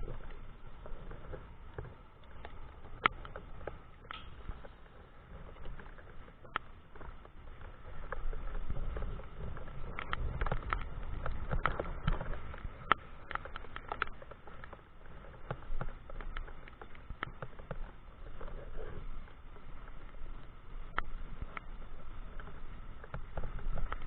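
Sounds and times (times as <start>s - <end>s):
low rumble of wind: 0.0s - 24.0s
raindrops ticking on microphone: 0.0s - 24.0s.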